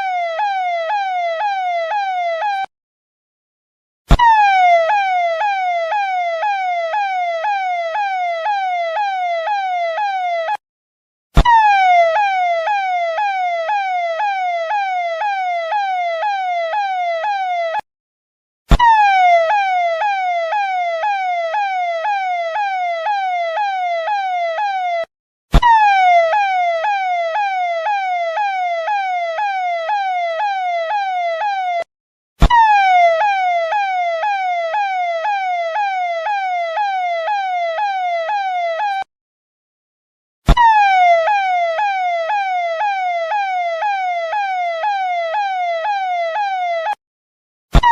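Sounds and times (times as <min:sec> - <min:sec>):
electronic police siren: 0:00.0 - 0:02.7, 0:04.1 - 0:10.6, 0:11.4 - 0:17.8, 0:18.7 - 0:39.1, 0:40.5 - 0:47.0
siren restart click: 0:00.0 - 0:02.7, 0:04.1 - 0:10.6, 0:11.4 - 0:17.8, 0:18.7 - 0:39.1, 0:40.5 - 0:47.0.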